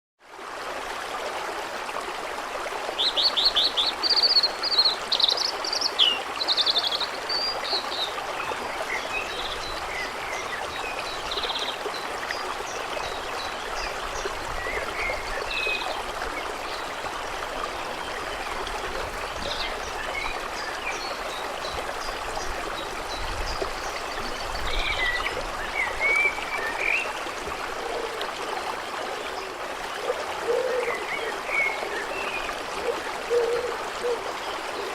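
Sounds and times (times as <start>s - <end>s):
stream flowing: 0.2s - 34.9s.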